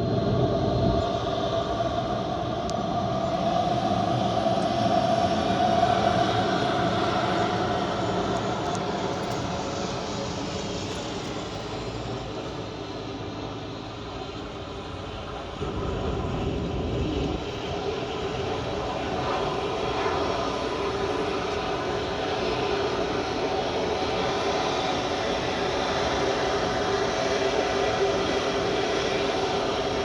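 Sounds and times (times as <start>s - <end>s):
jet passing roar: 0.0s - 30.0s.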